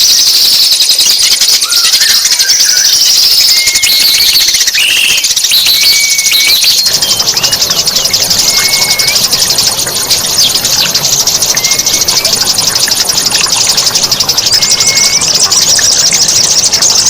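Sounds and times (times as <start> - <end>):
songbird whistled notes: 0.0 - 17.0.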